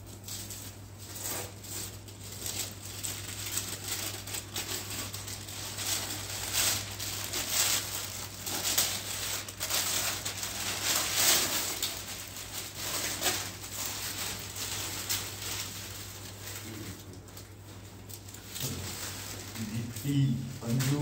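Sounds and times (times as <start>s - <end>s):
low steady hum: 0.0s - 21.0s
plastic wrapping crinkling: 0.0s - 21.0s.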